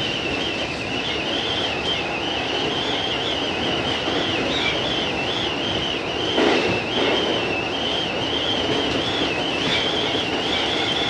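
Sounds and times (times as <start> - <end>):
train running rumble: 0.0 - 11.0
wheels squealing against rail: 0.0 - 11.0.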